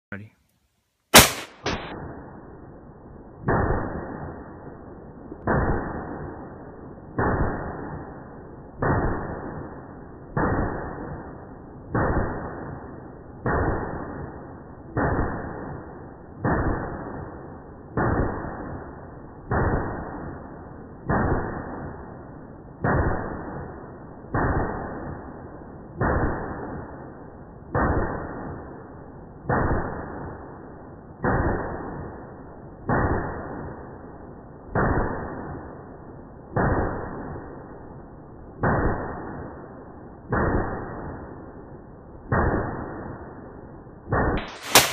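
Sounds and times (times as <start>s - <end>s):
slowed-down gunshots: 1.1s - 44.9s.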